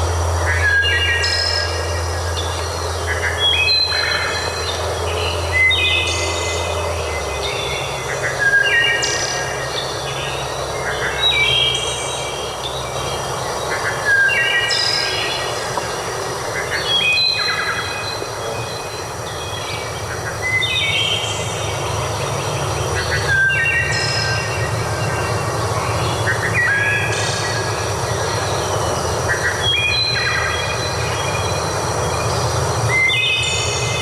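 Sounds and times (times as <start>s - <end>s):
birds singing: 0.0s - 34.0s.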